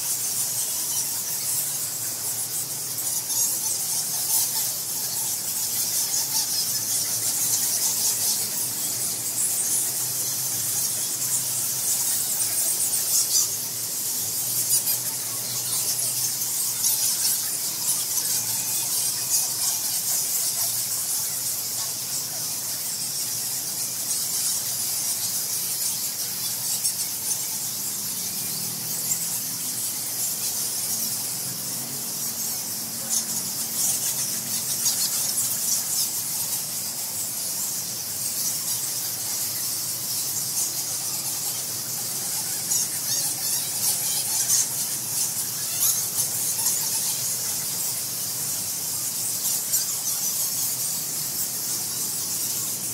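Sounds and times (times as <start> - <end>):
bats squeaking: 0.0 - 52.9.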